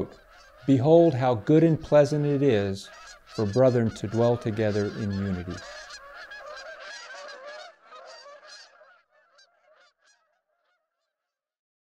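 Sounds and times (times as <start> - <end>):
geese honking: 0.0 - 10.8.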